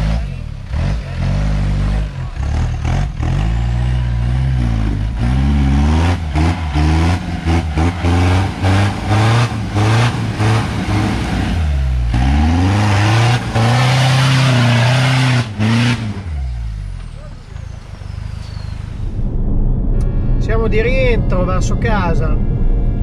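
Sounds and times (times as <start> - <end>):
car engine revving: 0.0 - 19.3.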